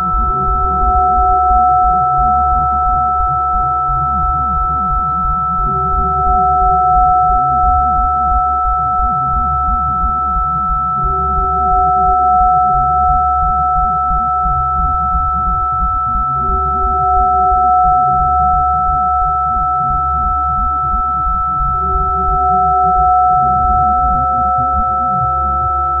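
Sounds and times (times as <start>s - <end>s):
flickering low rumble: 0.0s - 26.0s
high sine tones: 0.0s - 26.0s.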